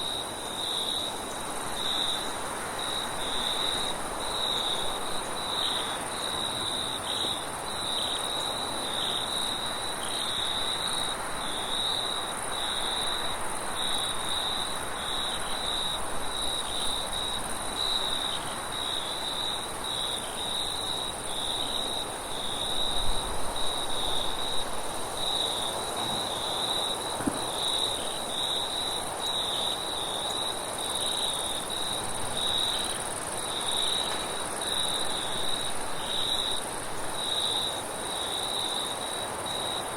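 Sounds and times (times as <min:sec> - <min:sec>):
constant high hiss: 0:00.0 - 0:39.9
crickets chirping: 0:00.0 - 0:39.9.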